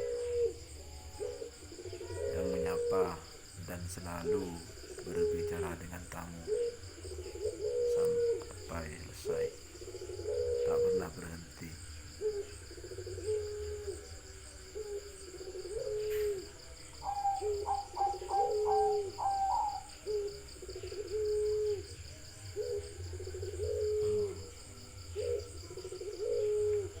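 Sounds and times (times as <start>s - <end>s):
bird hooting: 0.0s - 27.0s.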